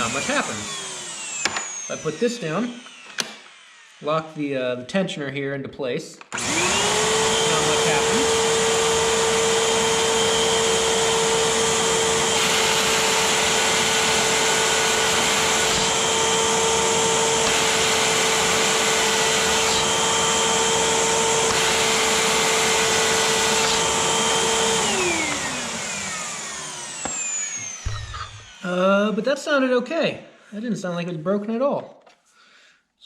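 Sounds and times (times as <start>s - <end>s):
vacuum cleaner whining: 0.0s - 4.6s, 6.3s - 29.2s.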